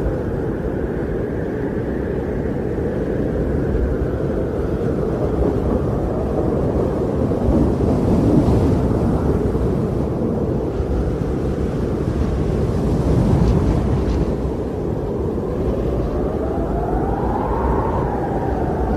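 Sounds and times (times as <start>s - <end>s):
wind blowing: 0.0s - 18.9s.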